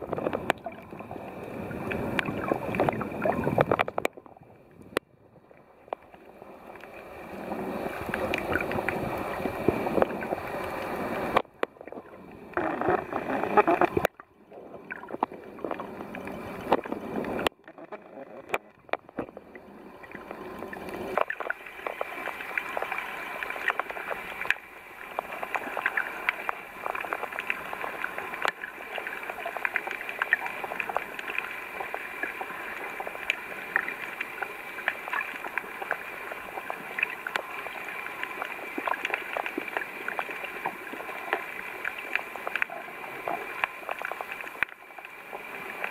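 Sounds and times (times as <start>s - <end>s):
sharp crackles and clicks: 0.0s - 5.1s, 8.0s - 45.9s
water sloshing and gurgling: 0.0s - 45.9s.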